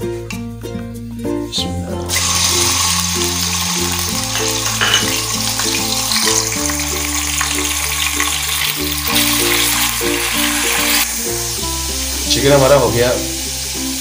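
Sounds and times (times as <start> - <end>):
chicken sizzling in frying pan: 2.1 - 14.0.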